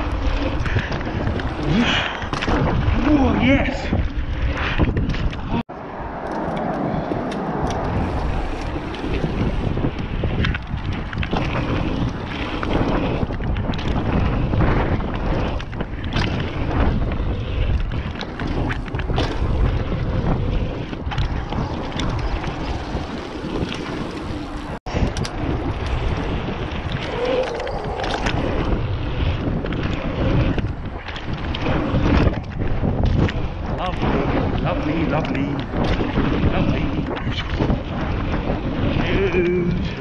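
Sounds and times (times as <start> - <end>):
bike rattling and knocking: 0.0 - 5.6, 6.3 - 40.0
bike tyre rumble: 0.0 - 40.0
wind rushing over microphone: 0.0 - 40.0.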